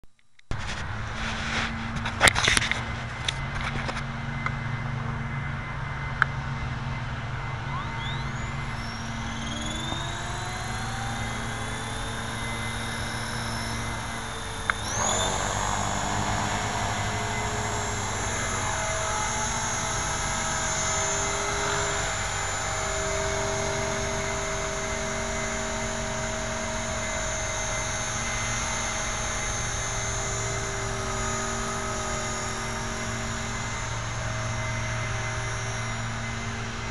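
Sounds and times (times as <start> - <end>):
model helicopter motor whine: 0.6 - 36.9.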